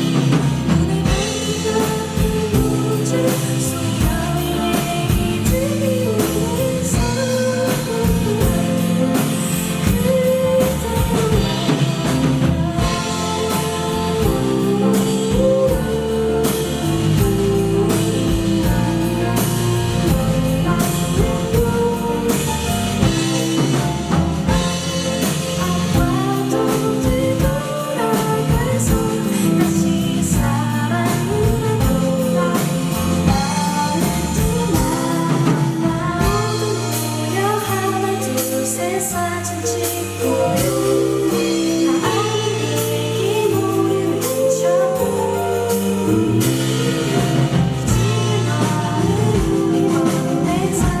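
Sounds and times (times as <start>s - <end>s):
drum kit beat: 0.0s - 51.0s
guitar: 0.0s - 51.0s
person singing: 0.0s - 51.0s.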